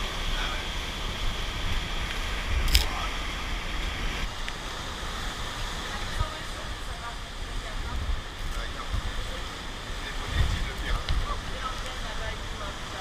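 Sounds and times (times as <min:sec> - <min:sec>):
strong wind buffeting microphone: 0:00.0 - 0:13.0
surf washing: 0:00.0 - 0:13.0.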